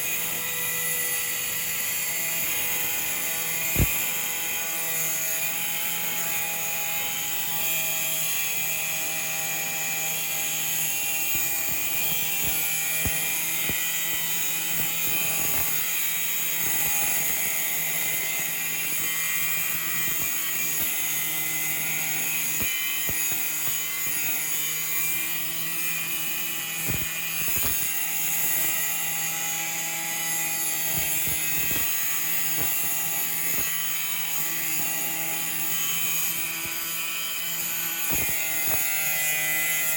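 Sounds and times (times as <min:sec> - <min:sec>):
electric power tool whirring: 0:00.0 - 0:39.9.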